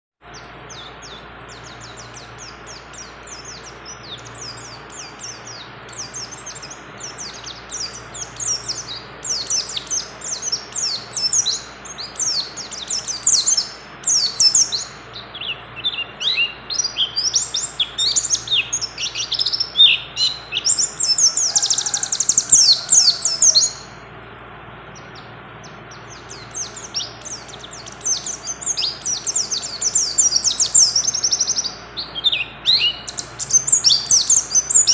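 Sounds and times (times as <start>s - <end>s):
bird singing chattering song: 0.2s - 34.9s.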